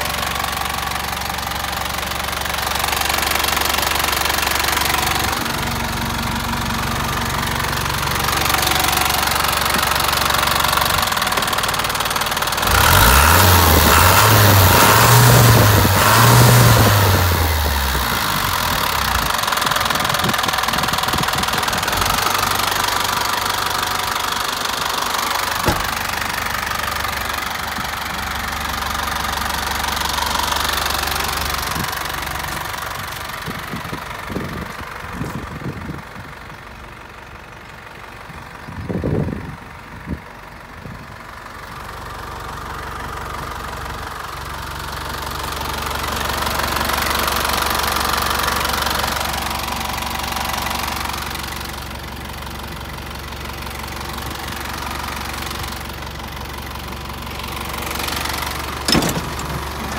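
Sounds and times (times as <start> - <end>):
diesel truck engine idling and revving: 0.0 - 59.9.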